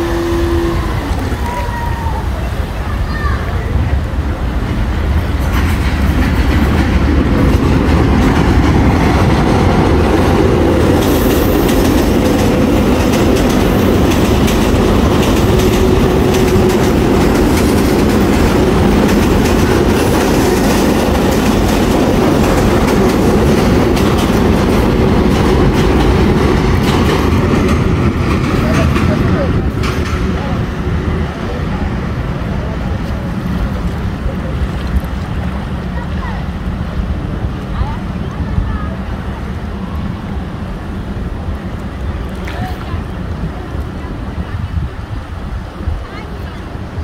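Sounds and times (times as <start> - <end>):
train wheels rolling on bridge: 0.0 - 47.0.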